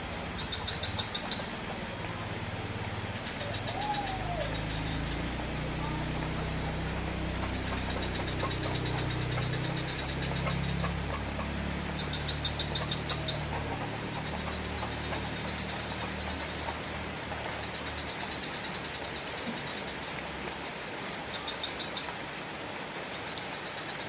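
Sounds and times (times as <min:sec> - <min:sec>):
vehicle engine humming: 0:00.0 - 0:20.1
rain falling: 0:00.0 - 0:24.0.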